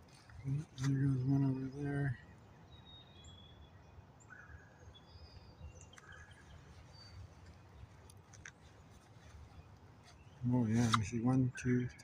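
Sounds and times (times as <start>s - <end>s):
faint bird chirps: 0.2s - 12.0s.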